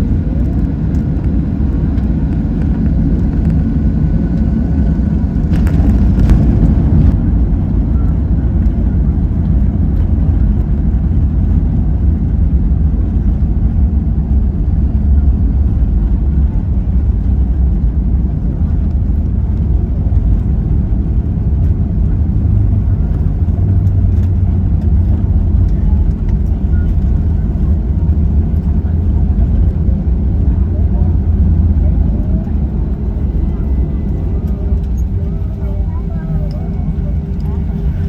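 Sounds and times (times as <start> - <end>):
airplane cabin rumble: 0.0 - 38.0
clatter: 4.3 - 38.0.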